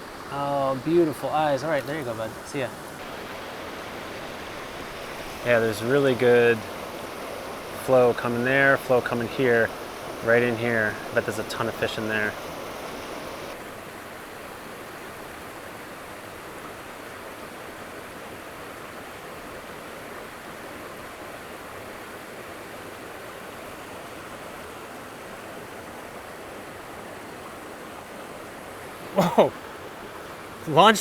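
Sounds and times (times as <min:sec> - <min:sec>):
creek flowing over rocks: 0:00.0 - 0:31.0.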